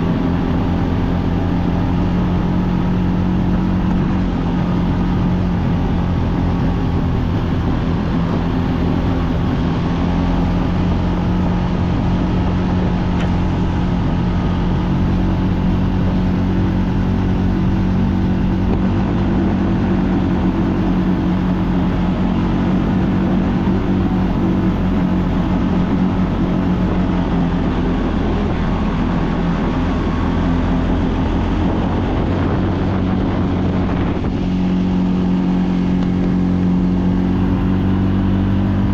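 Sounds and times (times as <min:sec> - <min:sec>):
quad bike engine droning: 0:00.0 - 0:38.9.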